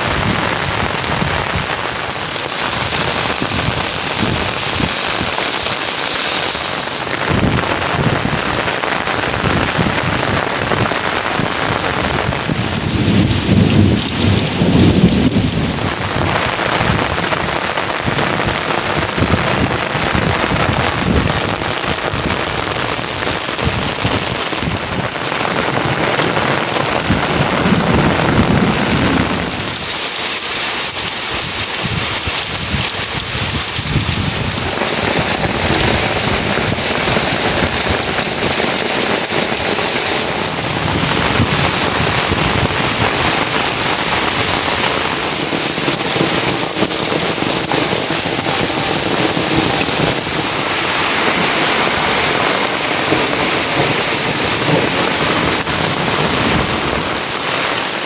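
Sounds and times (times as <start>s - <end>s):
heavy rain: 0.0s - 58.0s
thunder rolling: 6.8s - 57.6s.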